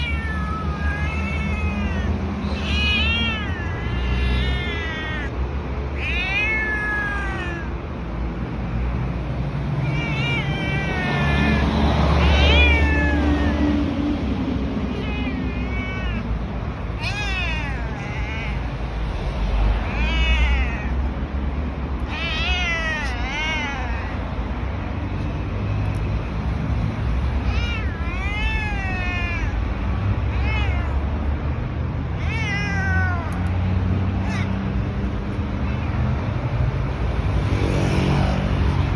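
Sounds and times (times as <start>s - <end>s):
cat meowing: 0.0s - 38.8s.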